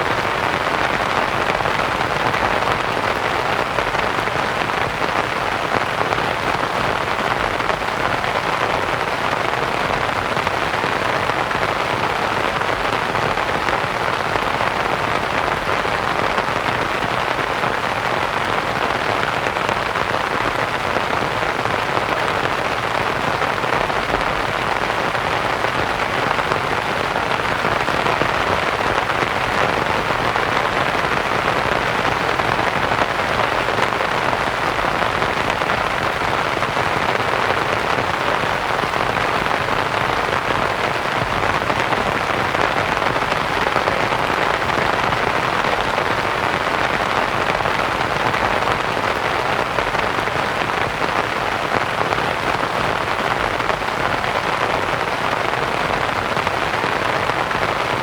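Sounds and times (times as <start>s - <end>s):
rain pattering on a canvas tent: 0.0s - 58.0s.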